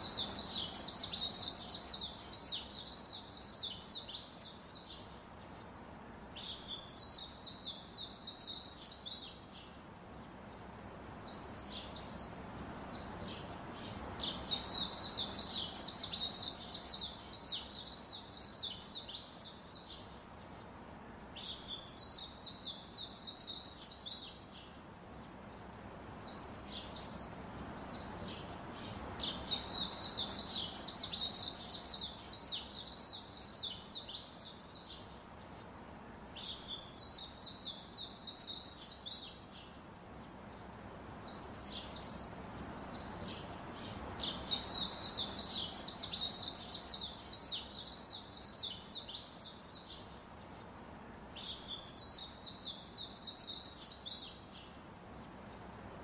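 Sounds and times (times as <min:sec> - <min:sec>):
small birds twittering: 0:00.0 - 0:56.0
steady background hiss: 0:00.0 - 0:56.0.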